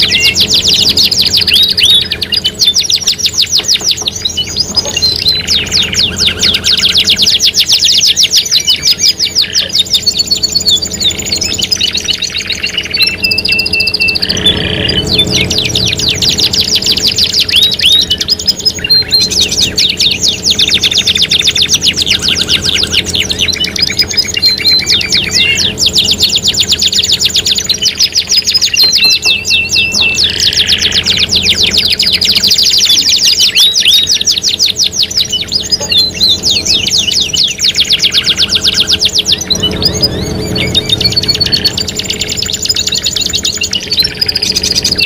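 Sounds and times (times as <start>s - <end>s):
canaries singing trills and chirps: 0.0s - 45.0s.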